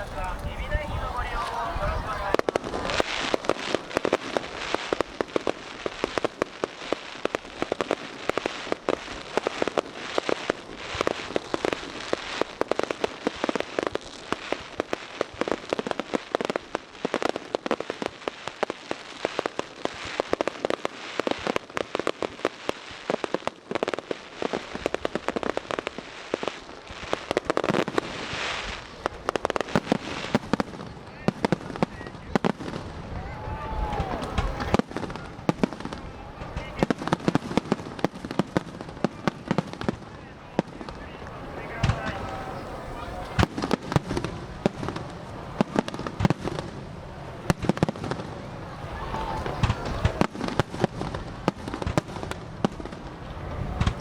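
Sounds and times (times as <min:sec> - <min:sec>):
aerial fireworks crackling: 0:00.0 - 0:54.0.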